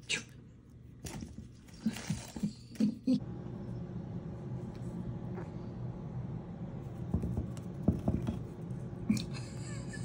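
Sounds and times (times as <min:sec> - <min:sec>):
steady low hum: 0:00.3 - 0:10.0.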